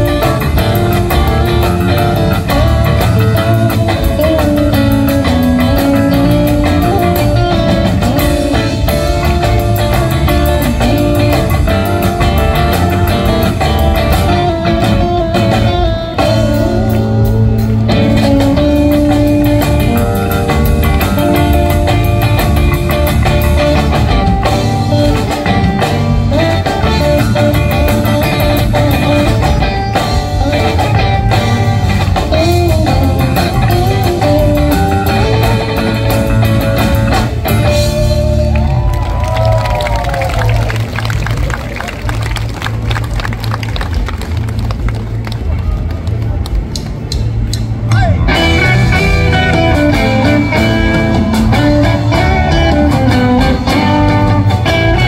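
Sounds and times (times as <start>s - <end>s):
drum kit beat: 0.0s - 41.4s, 46.1s - 55.0s
electric bass: 0.0s - 55.0s
electric guitars: 0.0s - 55.0s.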